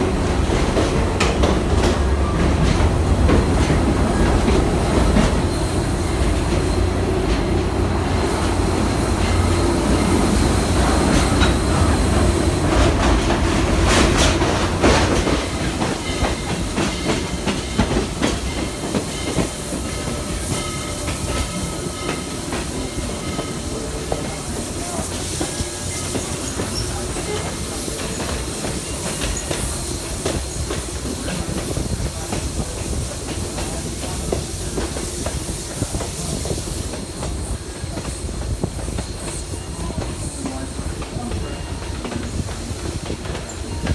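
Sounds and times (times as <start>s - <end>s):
heavy train rumble: 0.0s - 43.9s
train wheels clicking on rails: 0.0s - 43.9s.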